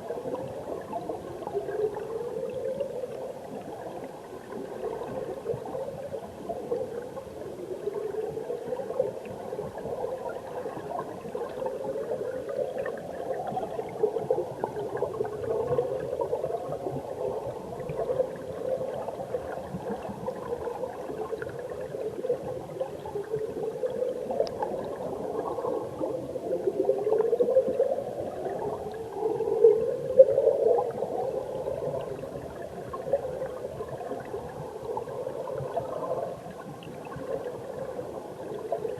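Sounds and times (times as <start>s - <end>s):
muffled underwater stream rushing: 0.0s - 38.9s.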